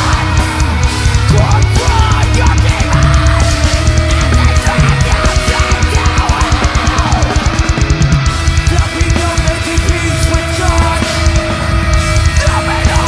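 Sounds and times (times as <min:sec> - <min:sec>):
distorted electric guitar: 0:00.0 - 0:13.0
fast drum beat: 0:00.0 - 0:13.0.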